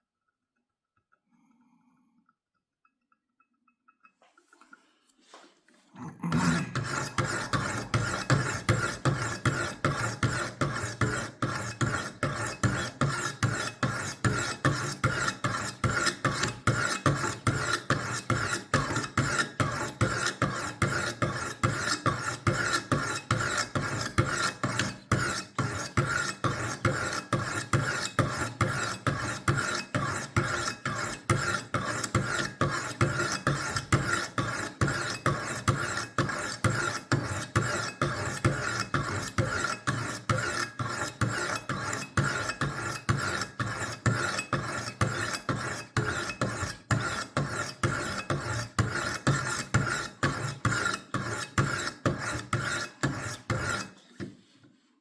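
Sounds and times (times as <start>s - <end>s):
stones scraping knife blade: 6.3s - 54.2s.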